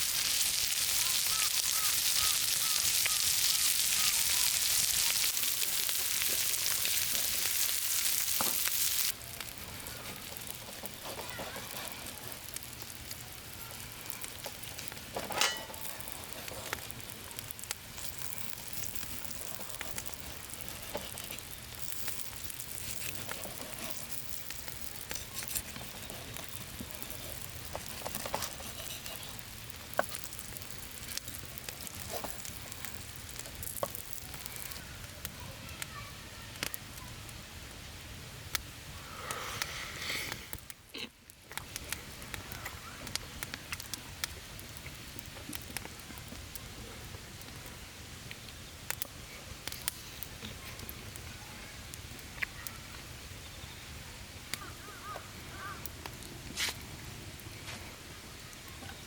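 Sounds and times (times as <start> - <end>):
food sizzling on hot metal: 0.0 - 59.0.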